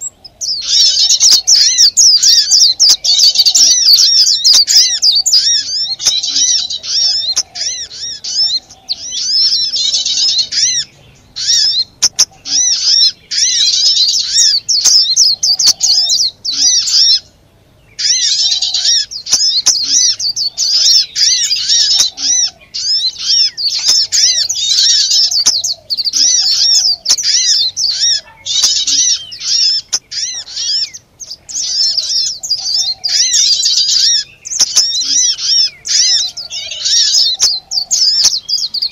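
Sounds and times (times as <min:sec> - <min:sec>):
small birds chattering: 0:00.0 - 0:38.9.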